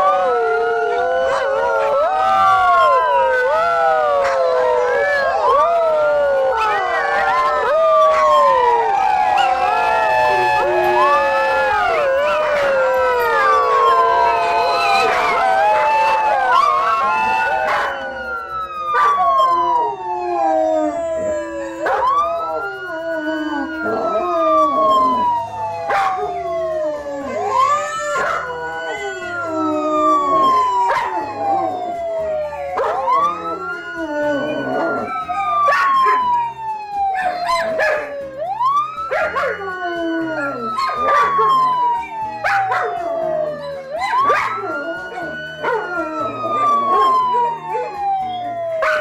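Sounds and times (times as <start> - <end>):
dogs howling and yelping: 0.0 - 49.0
emergency siren wailing: 0.0 - 49.0.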